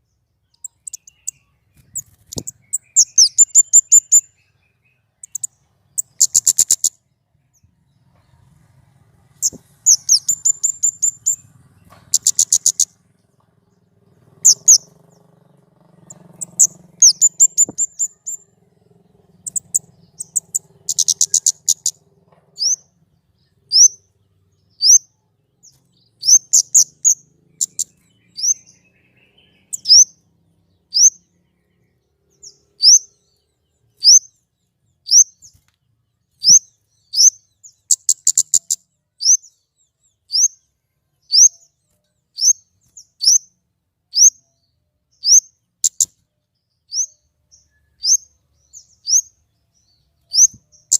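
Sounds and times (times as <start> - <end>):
songbird chirping: 0.0 - 50.9
songbird trill: 0.0 - 50.9.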